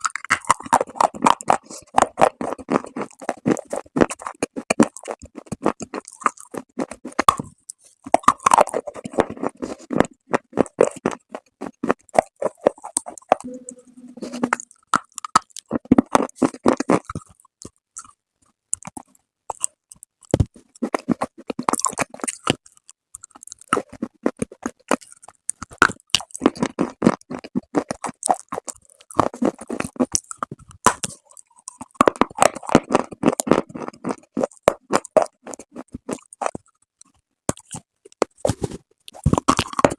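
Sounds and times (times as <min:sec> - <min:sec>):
chewing brittle clay: 0:00.0 - 0:13.5, 0:14.3 - 0:39.9.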